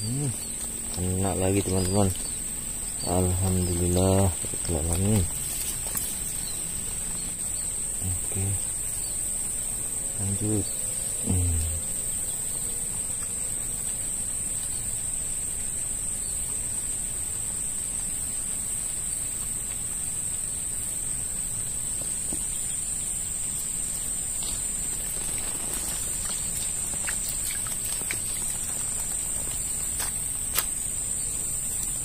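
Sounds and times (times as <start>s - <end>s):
faint ticks and rustles: 0.0s - 32.0s
high-pitched insect chorus: 0.0s - 32.0s.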